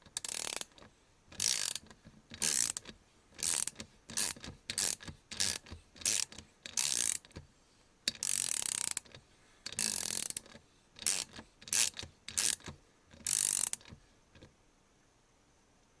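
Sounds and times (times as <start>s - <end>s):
ratchet clicking: 0.2s - 7.4s, 8.1s - 13.9s.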